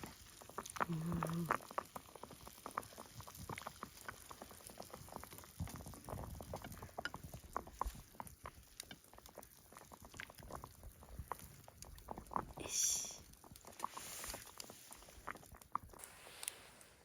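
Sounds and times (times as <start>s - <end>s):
broth bubbling and popping: 0.0s - 17.0s.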